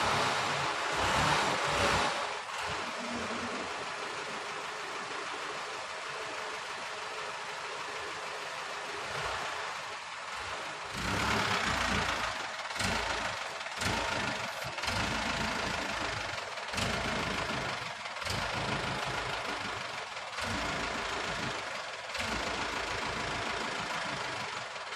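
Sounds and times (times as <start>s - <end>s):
toy truck engine rumbling: 0.0s - 24.9s.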